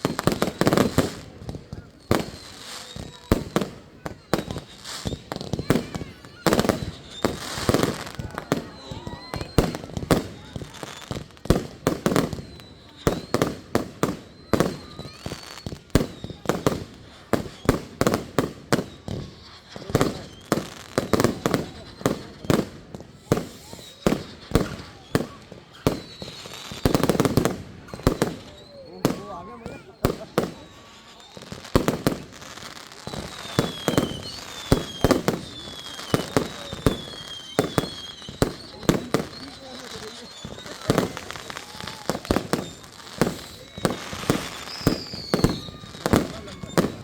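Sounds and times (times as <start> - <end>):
firework bangs: 0.0 - 47.0
faint high whistle: 0.5 - 11.2, 12.3 - 16.6, 23.2 - 31.7, 32.4 - 47.0.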